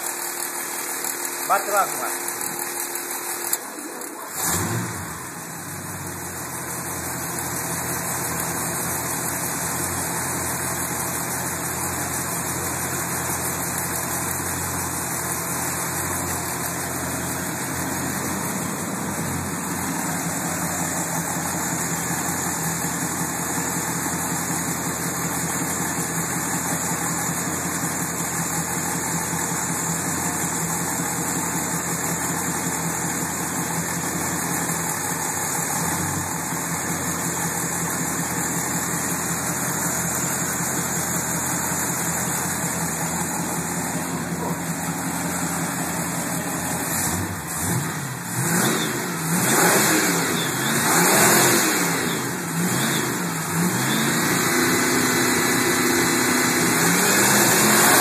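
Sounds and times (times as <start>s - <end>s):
car engine starting and idling: 0.1s - 58.0s.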